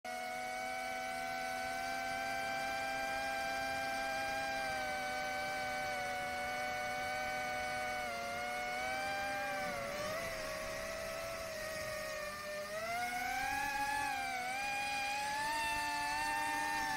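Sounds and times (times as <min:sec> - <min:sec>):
drone motors whining: 0:00.1 - 0:16.9.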